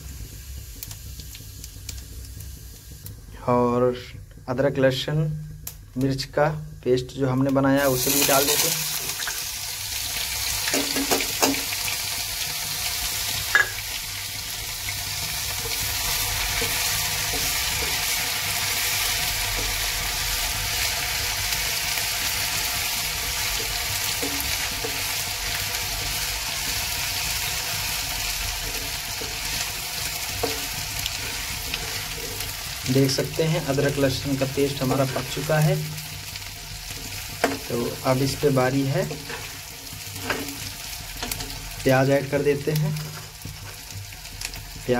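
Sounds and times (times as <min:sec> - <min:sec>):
paste sizzling in hot oil: 0:07.6 - 0:44.9.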